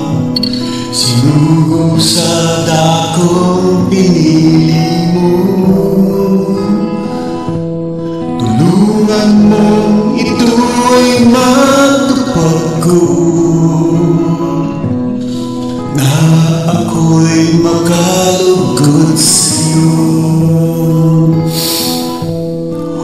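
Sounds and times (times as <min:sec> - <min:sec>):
man singing a hymn: 0:00.0 - 0:07.3, 0:08.4 - 0:22.3
karaoke backing track: 0:00.0 - 0:23.0.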